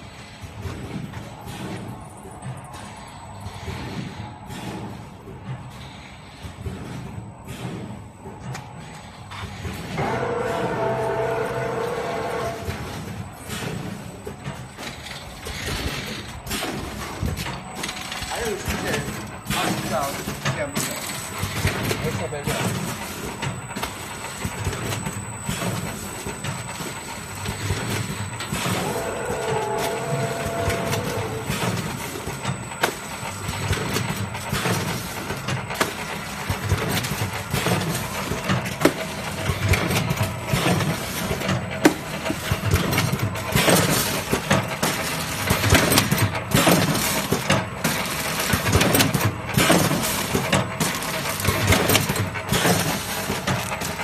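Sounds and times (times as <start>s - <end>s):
machine clicks and clatter: 0.0s - 10.7s, 12.4s - 54.0s
packing machine hum: 0.0s - 54.0s.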